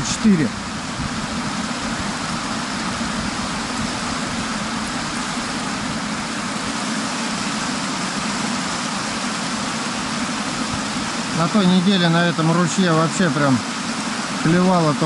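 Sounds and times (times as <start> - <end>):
stream water over stones: 0.0 - 15.0.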